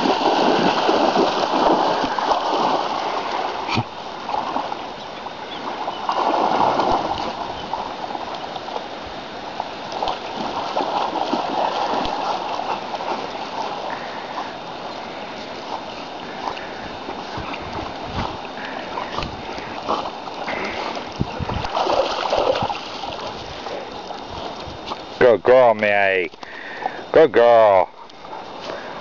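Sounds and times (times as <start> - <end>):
dog splashing through water: 0.0 - 25.2.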